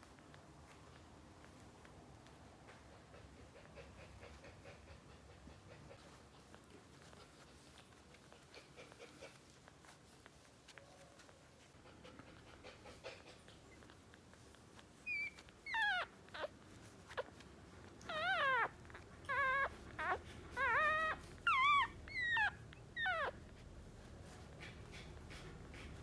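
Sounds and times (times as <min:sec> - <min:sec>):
puppies whimpering: 0:02.8 - 0:26.0.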